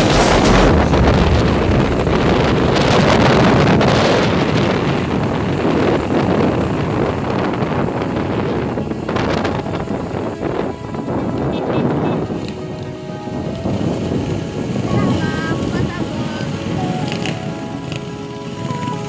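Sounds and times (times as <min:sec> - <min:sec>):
low vehicle rumble: 0:00.0 - 0:19.0
wind buffeting microphone: 0:00.0 - 0:19.0.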